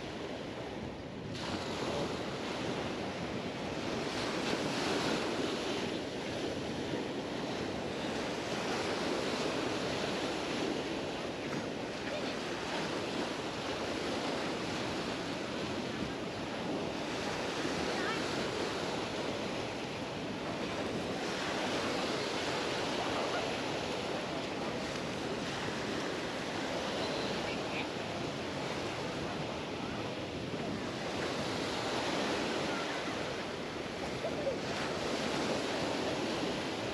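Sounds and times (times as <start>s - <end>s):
waves washing onto beach: 0.0s - 36.9s
wind on microphone: 0.0s - 36.9s.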